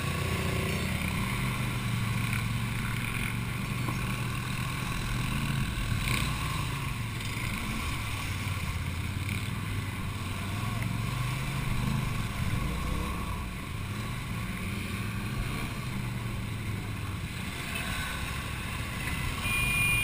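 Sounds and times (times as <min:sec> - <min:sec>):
quad bike engine revving: 0:00.0 - 0:20.0.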